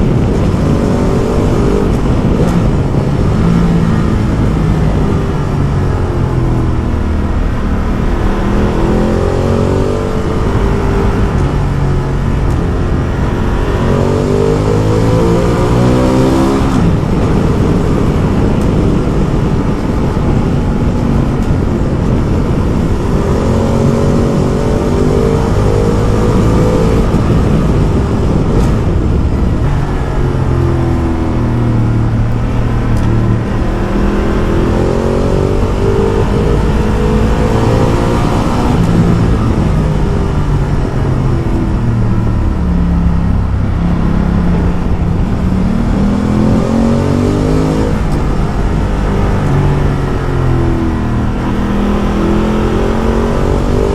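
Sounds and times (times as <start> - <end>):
motorcycle engine accelerating: 0.0 - 53.9
road and wind noise: 0.0 - 53.9.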